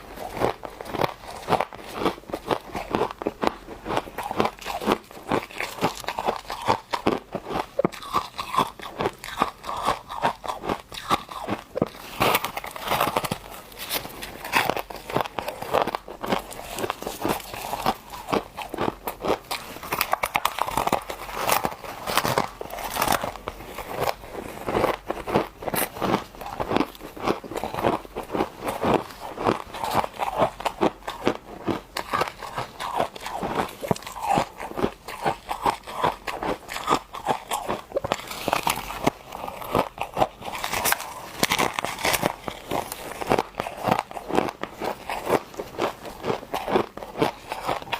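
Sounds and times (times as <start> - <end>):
crunching and chewing ice: 0.0 - 47.9.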